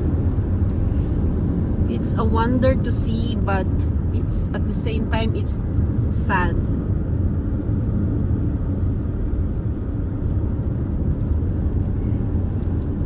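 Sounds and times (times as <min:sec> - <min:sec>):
road noise: 0:00.0 - 0:13.0
vehicle engine: 0:00.0 - 0:13.0.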